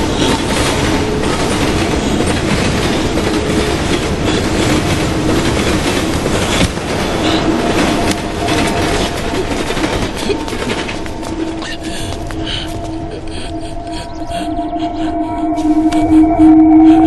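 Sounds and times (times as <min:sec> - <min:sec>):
train wheel clatter: 0:00.0 - 0:14.5
freight train rolling on rails: 0:00.0 - 0:17.0.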